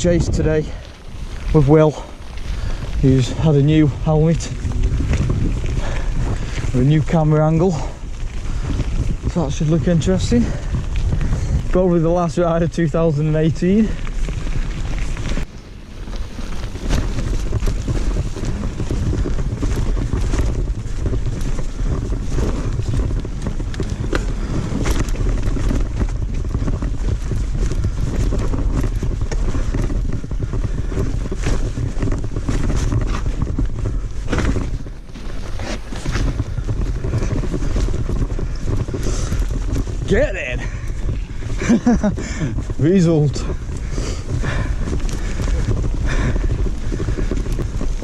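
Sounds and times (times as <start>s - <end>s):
bike rattles and knocks: 0.0s - 48.0s
steady rumble: 0.0s - 48.0s
wind buffeting microphone: 0.0s - 48.0s.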